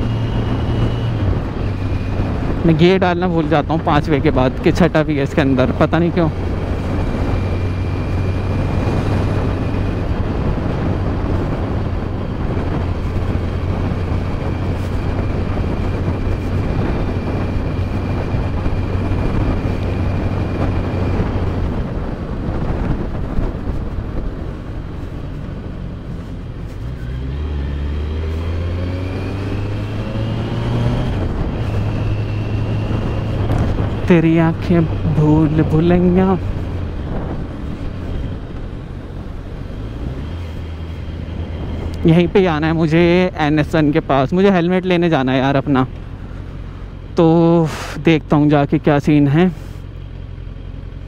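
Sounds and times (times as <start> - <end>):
motorcycle engine running: 0.0 - 47.7
wind rush: 0.0 - 48.7.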